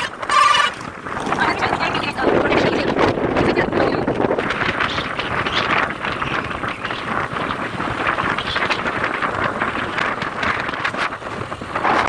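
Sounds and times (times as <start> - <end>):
vehicle engine and road noise: 0.0 - 12.0
wind buffeting microphone: 0.0 - 12.0.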